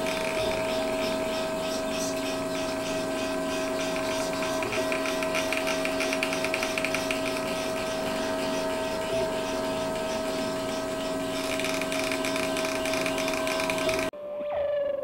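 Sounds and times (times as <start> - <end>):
rapid fluttering patter: 0.0 - 14.1
stepper motors whining: 0.0 - 14.1.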